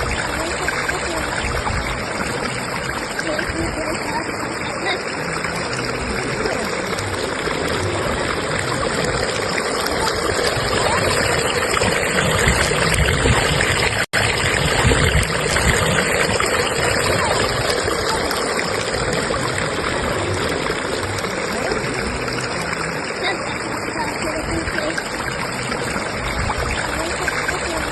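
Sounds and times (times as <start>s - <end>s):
stream rushing and splashing: 0.0s - 27.9s.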